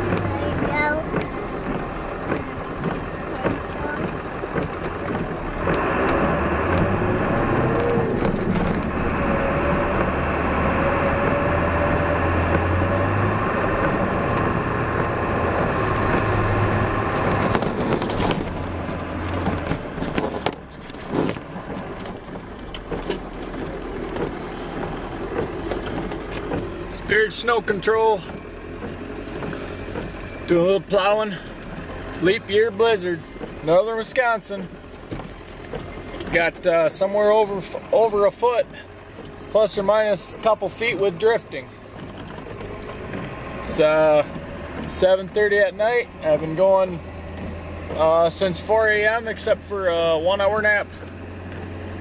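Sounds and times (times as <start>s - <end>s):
knocks and clatter: 0.0s - 52.0s
snow plow truck engine running: 0.0s - 52.0s.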